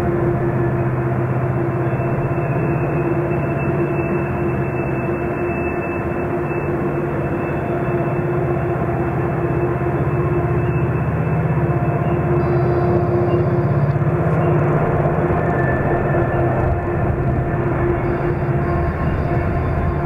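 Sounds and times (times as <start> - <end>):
drone motors humming and whining: 0.0 - 20.0.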